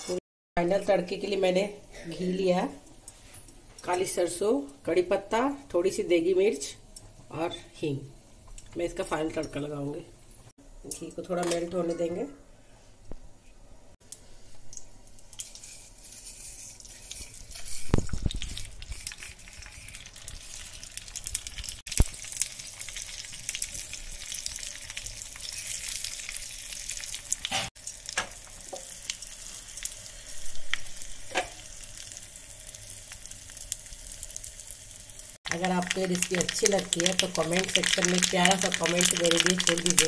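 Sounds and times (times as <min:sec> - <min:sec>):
spices sizzling and popping in oil: 0:00.6 - 0:09.9, 0:14.0 - 0:40.0.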